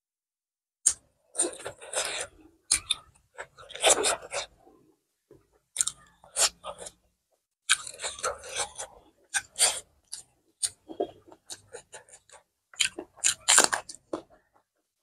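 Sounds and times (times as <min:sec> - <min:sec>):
chewing: 0:00.9 - 0:07.0, 0:07.7 - 0:14.7
fingers squishing rice and curry: 0:00.9 - 0:07.1, 0:07.7 - 0:14.7.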